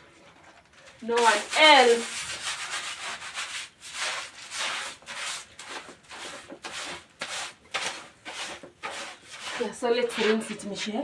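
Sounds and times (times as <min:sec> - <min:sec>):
broom scrubbing floor: 0:01.0 - 0:11.0.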